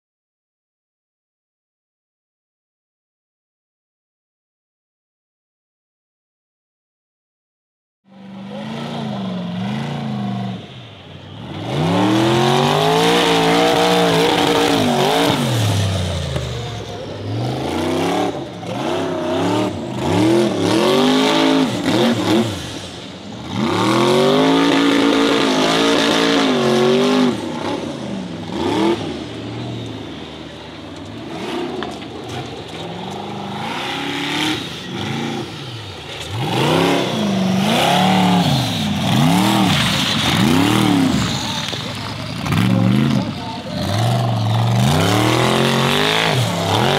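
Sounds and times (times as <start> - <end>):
buggy engine revving hard: 8.2 - 46.9.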